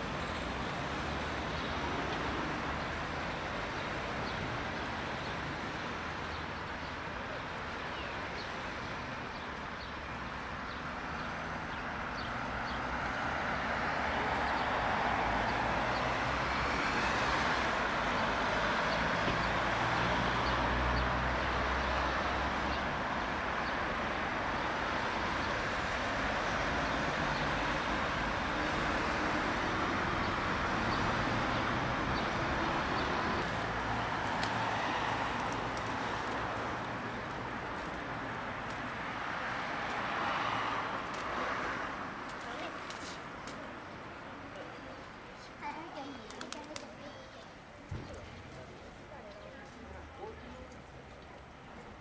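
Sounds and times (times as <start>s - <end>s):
road traffic passing: 0.0s - 52.0s.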